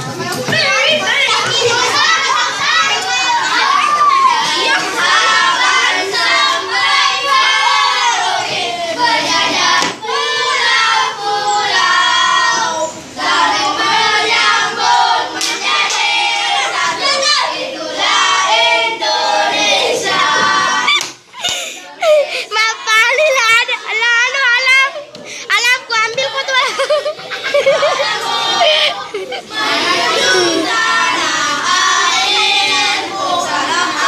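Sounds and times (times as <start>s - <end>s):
children singing together: 0.0s - 34.0s.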